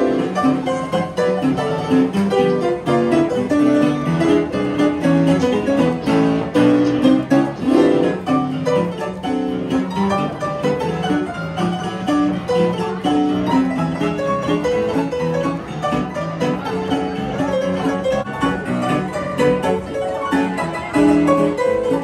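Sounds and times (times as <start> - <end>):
upright piano lively tune: 0.0 - 22.0.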